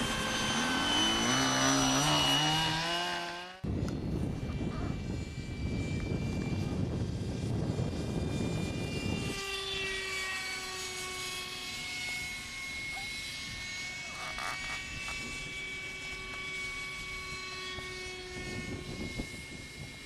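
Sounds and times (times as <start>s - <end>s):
ducted fan whining: 0.0s - 20.0s.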